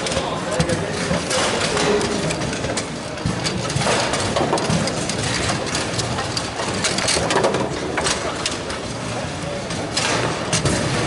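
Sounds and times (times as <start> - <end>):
low din of busy hall: 0.0 - 11.0.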